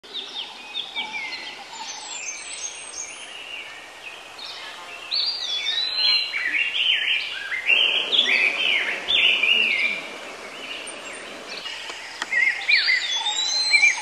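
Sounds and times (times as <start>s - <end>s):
birds whistling calls: 0.2s - 14.0s.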